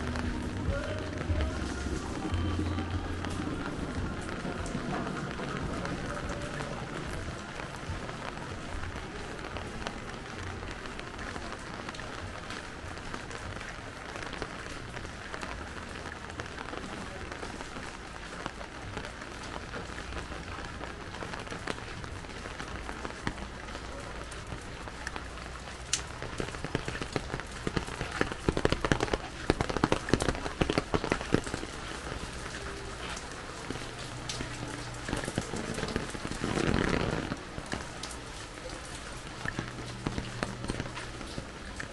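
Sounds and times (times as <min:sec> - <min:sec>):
rain pattering: 0:00.0 - 0:41.9.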